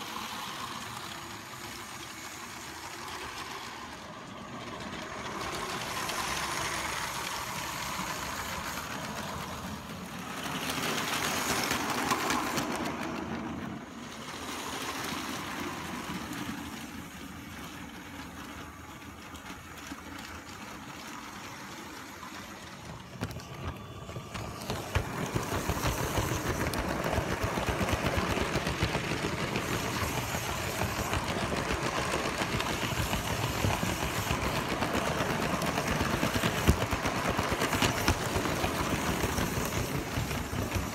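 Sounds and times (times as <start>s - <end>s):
toy trains rattling on track: 0.0s - 40.9s.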